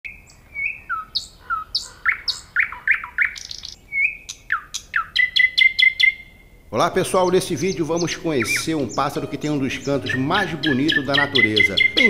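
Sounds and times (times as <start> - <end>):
nightingale singing: 0.1 - 12.0.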